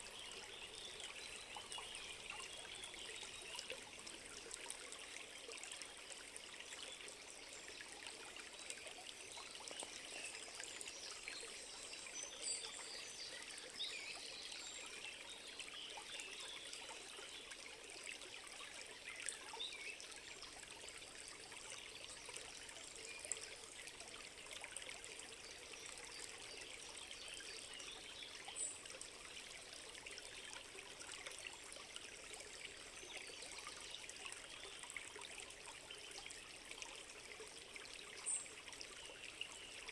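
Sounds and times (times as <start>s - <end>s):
faint stream babbling: 0.0s - 39.9s.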